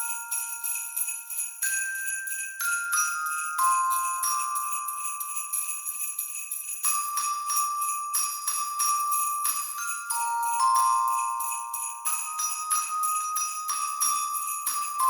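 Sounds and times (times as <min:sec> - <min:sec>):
jingle bells shaking: 0:00.0 - 0:15.0
ringing bell-like melody: 0:00.0 - 0:15.0.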